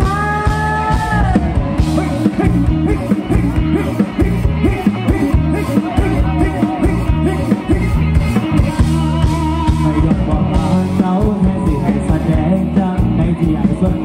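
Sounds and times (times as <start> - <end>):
bass guitar: 0.0 - 14.0
drums: 0.0 - 14.0
electric guitar: 0.0 - 14.0
person singing: 0.0 - 14.0.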